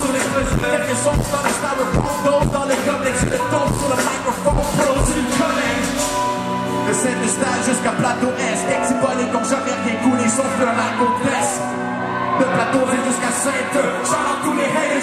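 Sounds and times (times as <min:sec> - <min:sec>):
keyboards playing: 0:00.0 - 0:15.0
person singing: 0:00.0 - 0:15.0.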